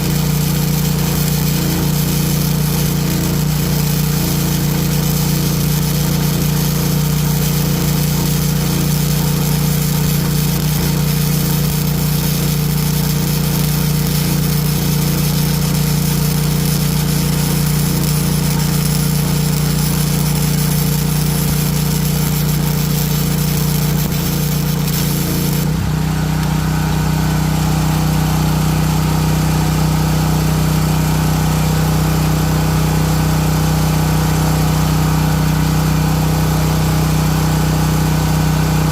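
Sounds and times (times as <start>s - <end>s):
generator engine running: 0.0s - 38.9s
welding arc hissing: 0.0s - 38.9s.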